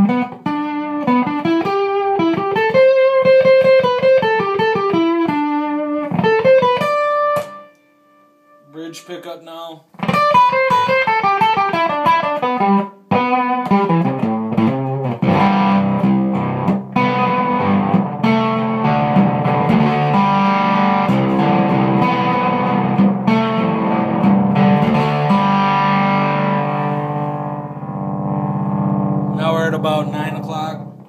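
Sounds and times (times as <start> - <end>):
fuzzy electric guitar riffing: 0.0 - 31.0.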